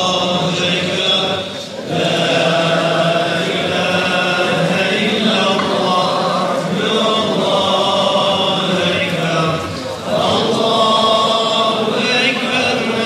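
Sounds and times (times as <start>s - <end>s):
crowd of men chanting: 0.0s - 13.0s.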